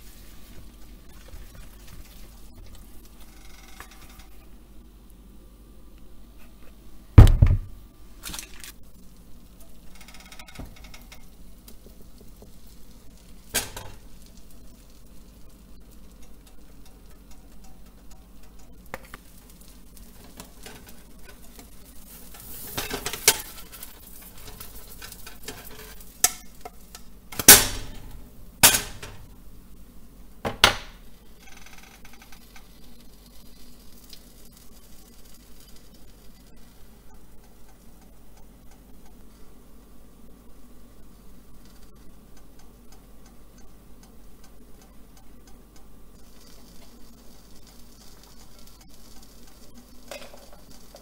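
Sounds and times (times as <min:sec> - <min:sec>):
batter sizzling in a pan: 0:00.0 - 0:04.5, 0:08.0 - 0:30.2, 0:30.9 - 0:39.5, 0:44.7 - 0:51.0.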